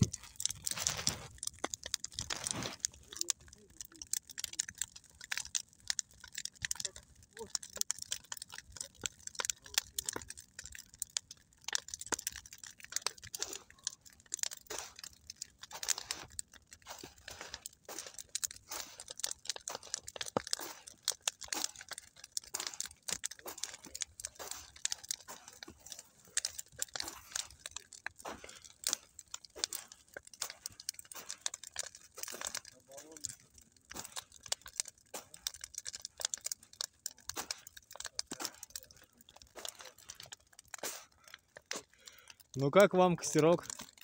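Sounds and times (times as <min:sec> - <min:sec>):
campfire crackling: 0:00.0 - 0:44.0.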